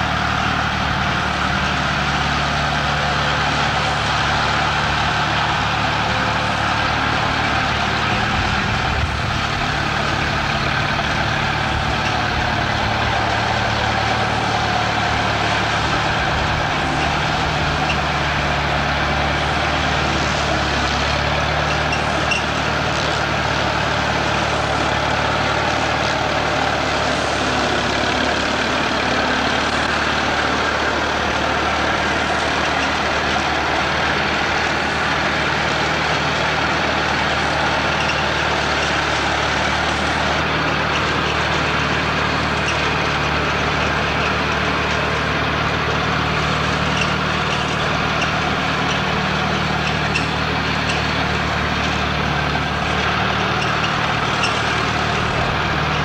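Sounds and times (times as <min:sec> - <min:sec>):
mower cutting grass: 0:00.0 - 0:56.0
tractor engine running: 0:00.0 - 0:56.0.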